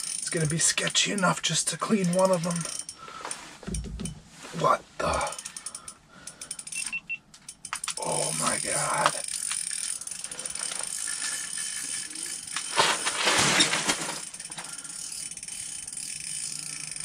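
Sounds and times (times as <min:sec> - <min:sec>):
fishing reel gears ticking: 0:00.0 - 0:03.4, 0:05.1 - 0:12.8, 0:14.2 - 0:17.0.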